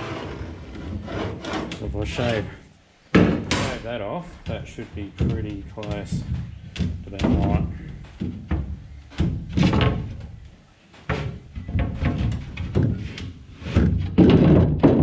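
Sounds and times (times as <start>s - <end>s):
wooden knocks and scrapes: 0.0s - 15.0s.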